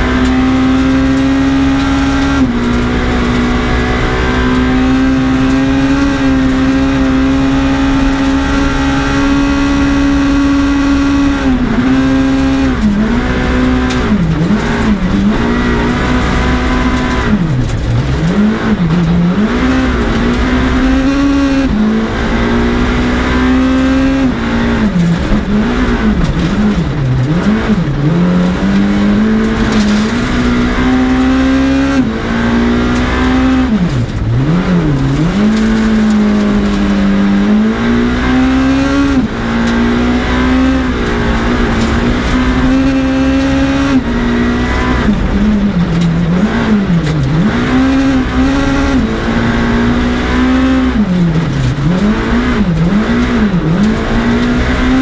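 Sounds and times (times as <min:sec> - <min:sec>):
rally car engine revving: 0:00.0 - 0:55.0
tyres on gravel: 0:00.0 - 0:55.0.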